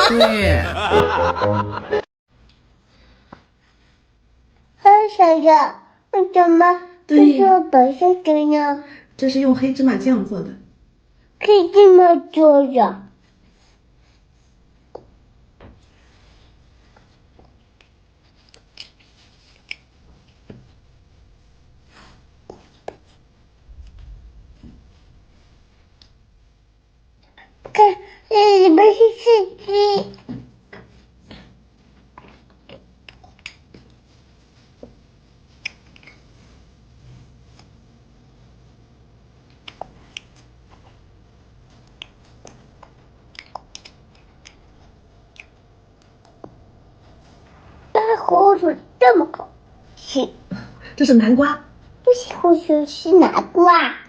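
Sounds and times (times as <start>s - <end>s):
faint room hum: 0.0s - 54.0s.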